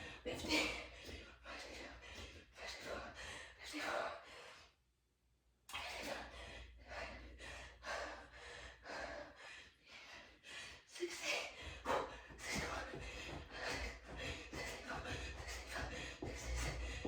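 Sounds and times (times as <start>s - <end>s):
woman breathing heavily: 0.0s - 4.8s, 5.7s - 17.0s.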